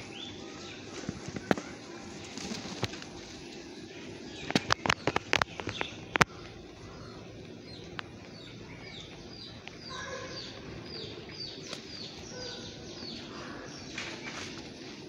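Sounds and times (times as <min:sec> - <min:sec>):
birds chirping: 0:00.0 - 0:15.0
steady background noise: 0:00.0 - 0:15.0.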